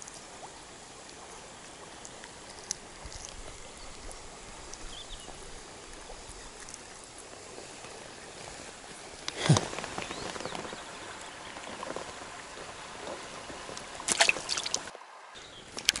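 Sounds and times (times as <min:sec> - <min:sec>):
river water running: 0:00.0 - 0:16.0.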